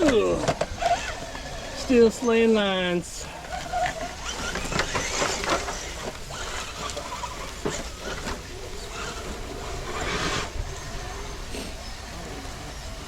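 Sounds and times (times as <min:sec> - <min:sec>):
toy truck scraping over rocks: 0:00.0 - 0:13.0.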